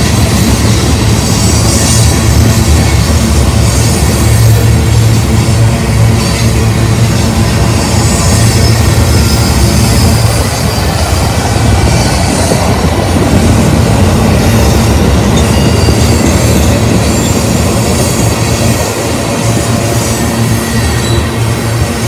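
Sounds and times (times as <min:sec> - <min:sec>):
freight train rolling past: 0:00.0 - 0:22.0
steel wheels clattering on rails: 0:00.0 - 0:22.0.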